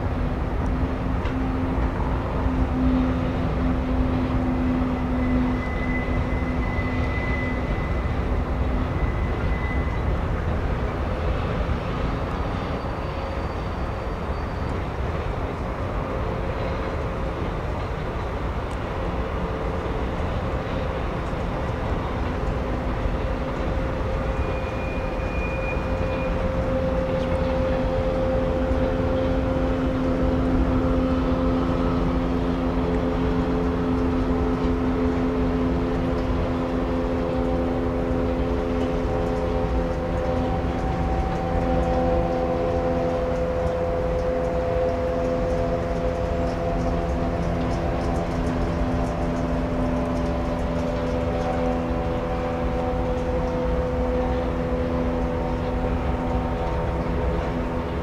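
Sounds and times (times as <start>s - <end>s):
low droning hum: 0.0s - 58.0s
train wheels rumbling: 0.0s - 58.0s.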